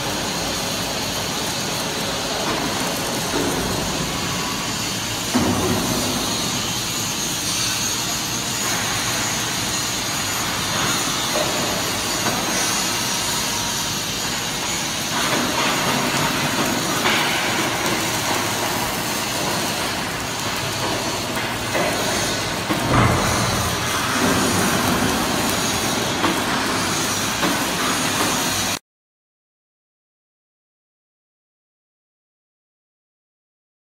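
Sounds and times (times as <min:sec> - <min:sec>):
welding machinery hissing and rumbling: 0:00.0 - 0:28.8.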